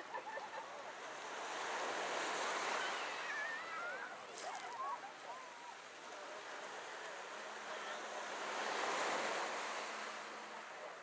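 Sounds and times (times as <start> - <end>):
choppy water: 0.0 - 11.0
wind: 0.0 - 11.0.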